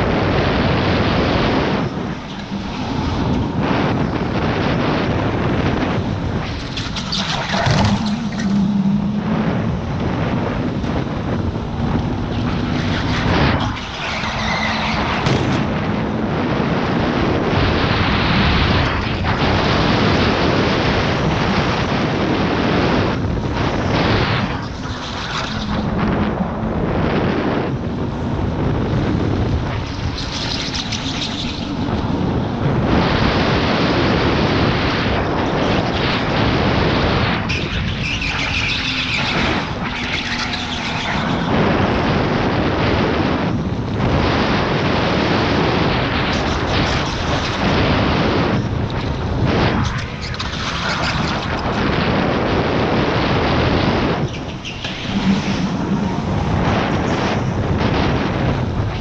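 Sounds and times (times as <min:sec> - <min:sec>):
wind rushing: 0:00.0 - 0:59.0
tyre noise: 0:00.1 - 0:16.2, 0:16.8 - 0:59.0.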